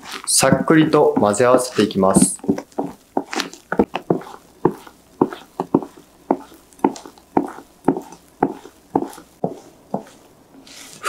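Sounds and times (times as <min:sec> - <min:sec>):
spatula folding batter squelching: 0:00.0 - 0:11.0.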